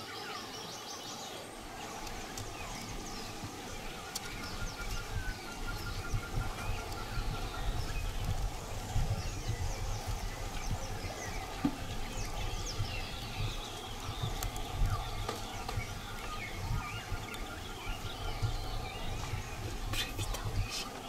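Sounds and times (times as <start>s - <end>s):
birds chirping and calling: 0.0s - 21.0s
faint insect drone: 0.0s - 21.0s.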